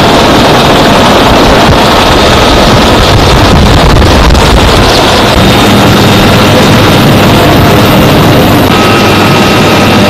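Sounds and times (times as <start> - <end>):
wind buffeting microphone: 0.0 - 9.0
helicopter engine and rotor: 0.0 - 10.0.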